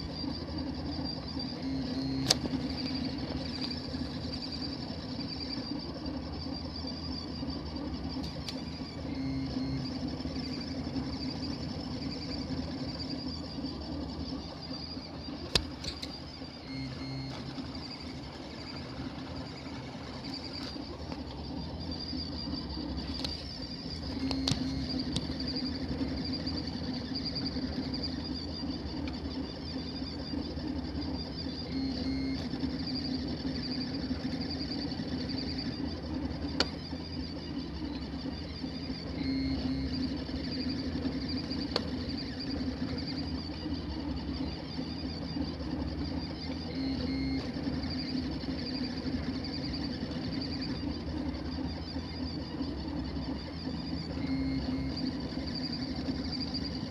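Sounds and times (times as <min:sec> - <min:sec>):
cooling fans whirring: 0:00.0 - 0:56.9
stepper motors humming: 0:00.0 - 0:56.9.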